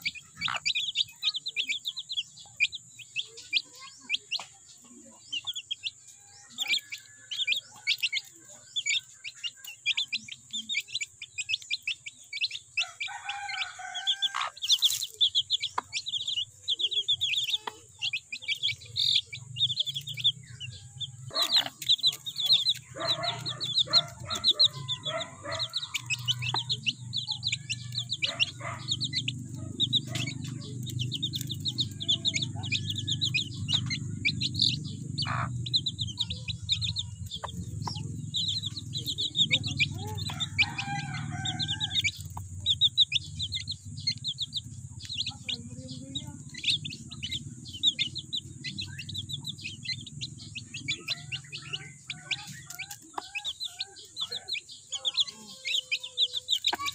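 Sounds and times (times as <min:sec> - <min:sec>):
chicks peeping: 0:00.0 - 0:56.9
hen clucking: 0:00.0 - 0:56.9.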